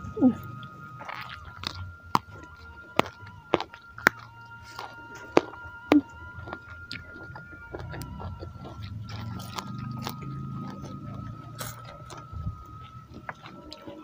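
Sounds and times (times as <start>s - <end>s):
crunchy chewing of lettuce: 0.0s - 14.0s.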